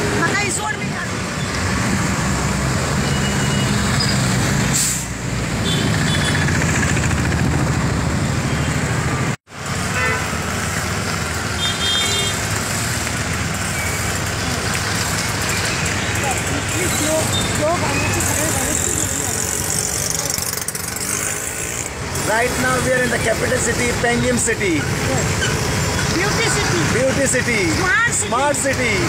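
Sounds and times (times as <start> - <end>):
traffic engine and tyre noise: 0.0 - 29.0.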